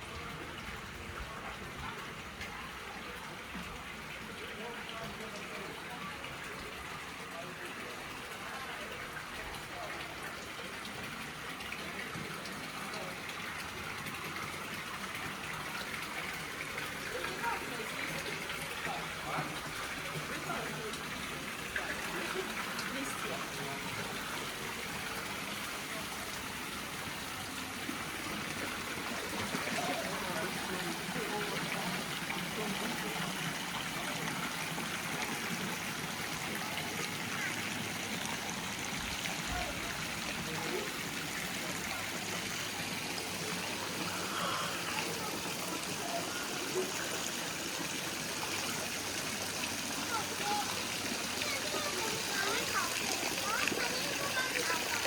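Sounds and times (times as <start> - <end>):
flowing gushing water: 0.0 - 55.0
people talking indistinctly: 0.1 - 55.0.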